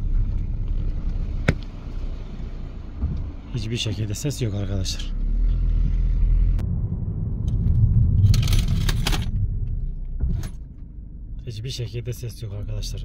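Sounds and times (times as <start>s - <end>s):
car rolling low rumble: 0.0s - 13.0s.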